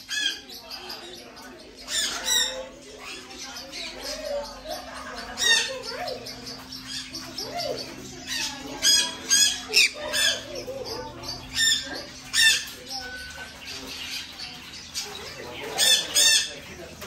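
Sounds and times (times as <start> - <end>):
parrots squawking: 0.0 - 16.7.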